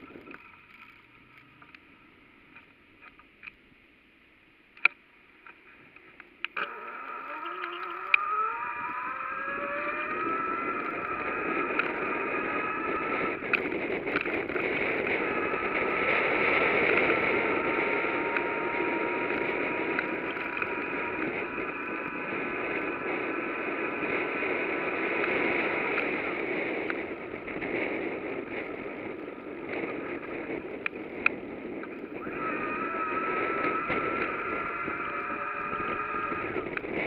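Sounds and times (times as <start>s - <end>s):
bicycle rolling on road: 0.0s - 37.0s.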